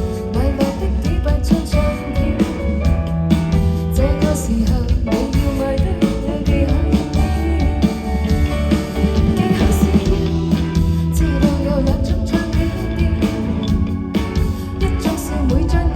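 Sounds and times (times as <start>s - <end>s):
person singing: 0.0s - 3.1s, 3.8s - 15.9s
live pop band playing: 0.0s - 15.9s.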